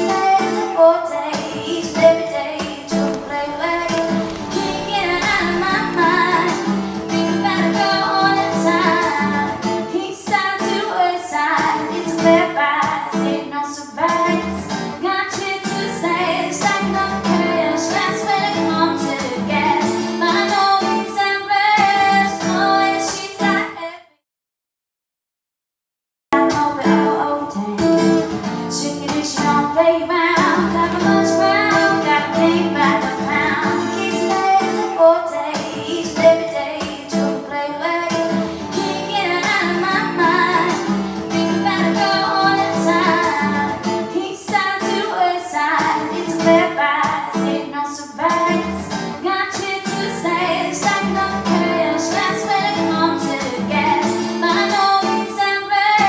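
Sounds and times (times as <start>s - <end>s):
guitar accompaniment: 0.0s - 23.8s, 26.4s - 56.0s
woman singing: 0.0s - 24.2s, 26.4s - 56.0s.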